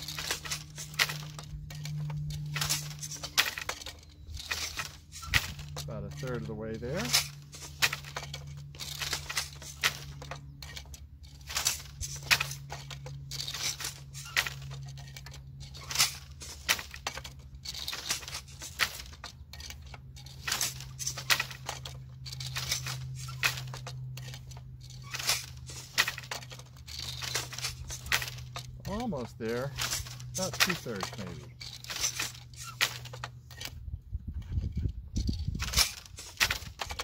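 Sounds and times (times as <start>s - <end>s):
yarn scraping on loom threads: 0.0s - 33.8s, 34.4s - 37.0s
steady low hum: 0.0s - 37.0s.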